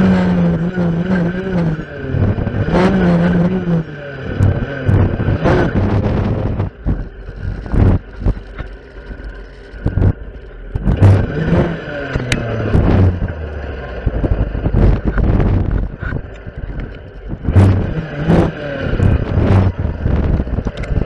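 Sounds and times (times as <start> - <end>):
clearing saw engine revving: 0.0 - 16.2, 17.3 - 21.0.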